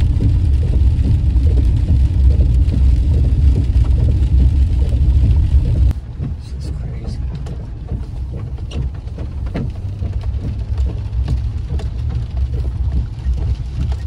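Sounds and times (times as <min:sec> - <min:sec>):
engine and tyres rumbling: 0:00.0 - 0:14.0
rain ticking on windshield: 0:00.0 - 0:14.0
wiper blades on windshield: 0:00.0 - 0:14.0.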